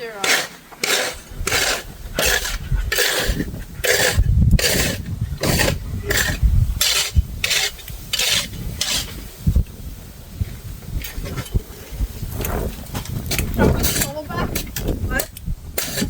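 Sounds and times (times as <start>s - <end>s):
snow shovel scraping pavement: 0.0s - 9.5s, 11.0s - 14.8s, 15.8s - 16.0s.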